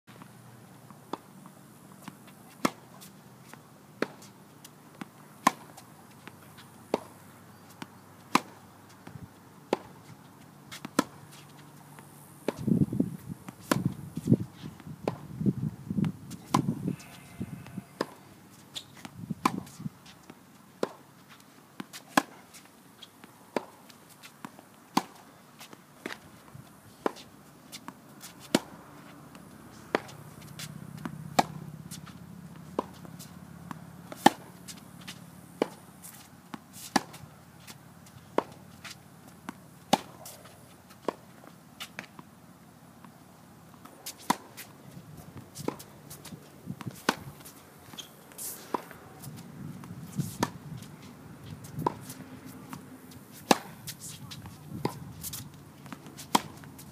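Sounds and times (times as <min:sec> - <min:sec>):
tennis balls struck by rackets: 0:00.2 - 0:15.4, 0:16.0 - 0:21.1, 0:21.7 - 0:42.3, 0:43.0 - 0:56.9.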